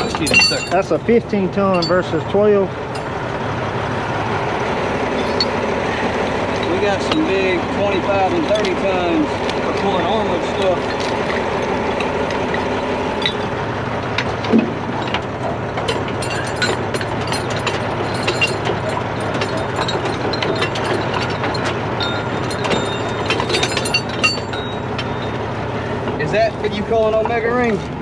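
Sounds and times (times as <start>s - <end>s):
chains clinking and clanking: 0.0s - 3.2s, 4.8s - 28.0s
diesel engine running: 0.0s - 28.0s.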